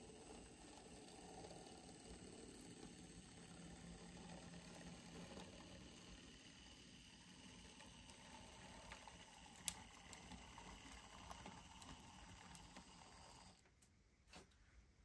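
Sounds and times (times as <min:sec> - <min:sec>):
model train motor whirring: 0:00.0 - 0:13.6.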